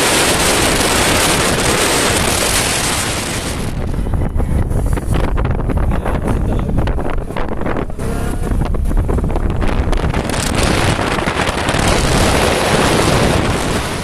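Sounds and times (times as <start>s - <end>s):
low rumble of travel: 0.0s - 14.0s
wind buffeting microphone: 0.0s - 14.0s.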